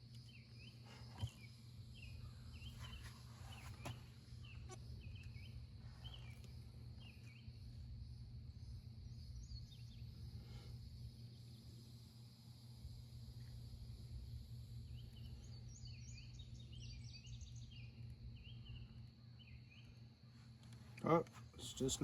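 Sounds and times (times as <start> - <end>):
faint low hum: 0.0 - 22.0
small birds chirping: 0.0 - 22.0.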